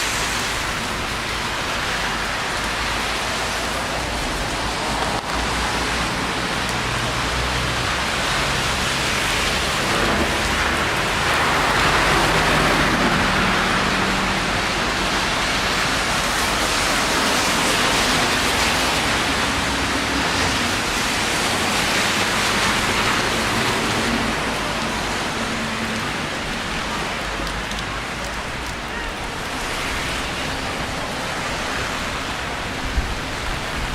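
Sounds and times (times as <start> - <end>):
rain on a street: 0.0 - 33.9.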